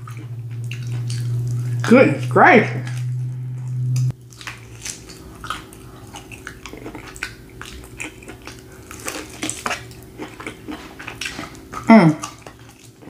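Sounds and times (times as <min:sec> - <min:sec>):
wet chewing clicks and smacks: 0:00.0 - 0:01.7, 0:04.0 - 0:13.0
low hum: 0:00.0 - 0:10.8.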